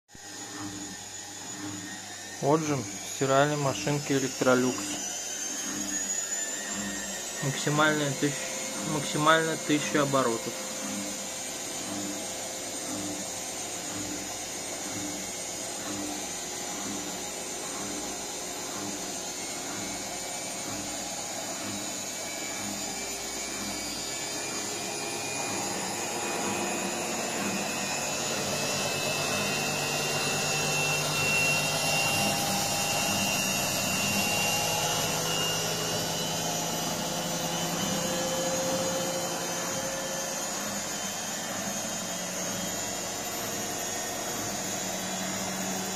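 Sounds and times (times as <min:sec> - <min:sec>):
washing machine spinning: 0:00.1 - 0:45.9.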